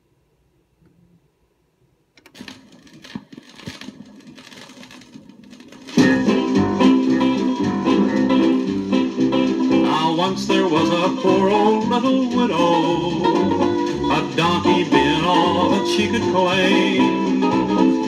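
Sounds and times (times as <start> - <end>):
vinyl crackle: 2.2 - 18.0
guitar-led rockabilly band: 2.4 - 18.0.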